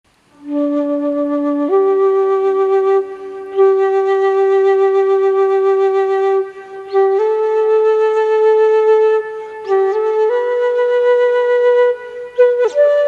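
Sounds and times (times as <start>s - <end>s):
solo flute long notes: 0.2s - 13.0s.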